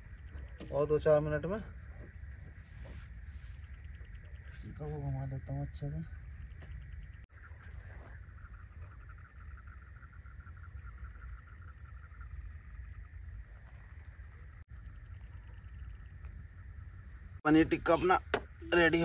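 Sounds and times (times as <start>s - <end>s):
frogs calling in pulsed trains: 0.0s - 19.0s
high-pitched insect whine: 0.0s - 19.0s
insects chirping: 0.0s - 19.0s.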